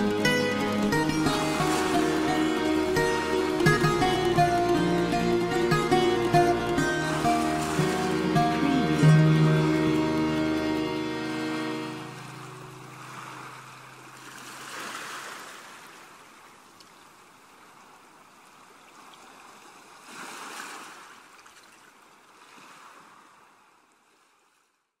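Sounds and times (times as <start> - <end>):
sea waves washing in: 0.0 - 21.6, 22.2 - 24.4.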